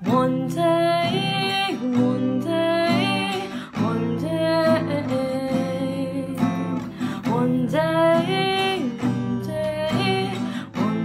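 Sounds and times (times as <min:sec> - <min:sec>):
strummed acoustic string instrument: 0:00.0 - 0:11.0
woman singing: 0:00.0 - 0:11.0.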